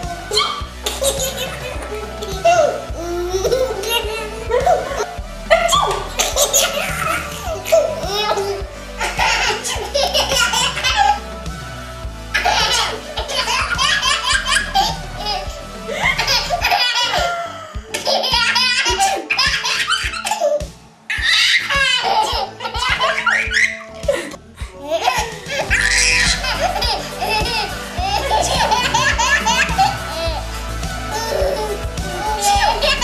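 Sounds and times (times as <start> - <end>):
baby laughing: 0.0 - 11.2, 12.4 - 30.5, 31.1 - 33.0
background music: 0.0 - 33.0.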